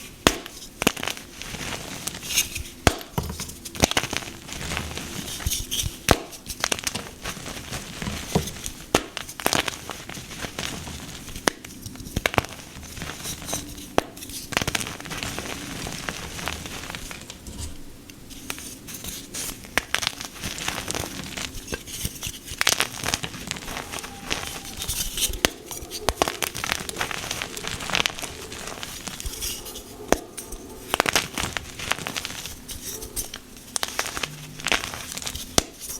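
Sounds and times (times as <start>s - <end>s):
chalk crunching and crackling: 0.0s - 35.9s.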